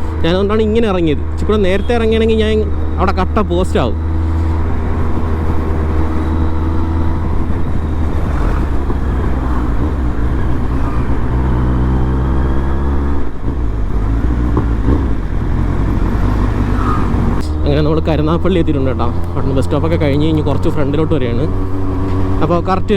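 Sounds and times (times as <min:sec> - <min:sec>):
motorcycle engine drone: 0:00.0 - 0:22.9.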